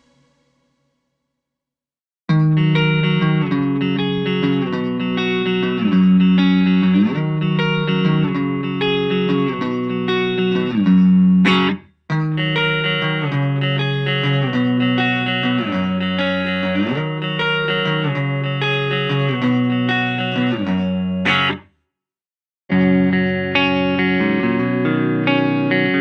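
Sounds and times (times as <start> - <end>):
electric guitar chords: 2.3 - 21.6, 22.7 - 26.0.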